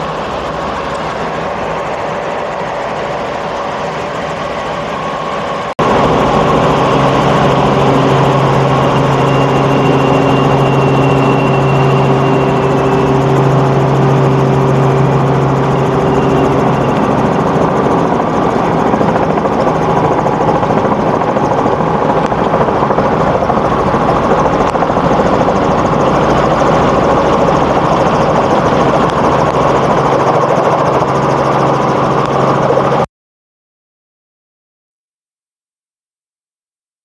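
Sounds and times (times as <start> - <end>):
helicopter drone from inside cabin: 0.0 - 33.1.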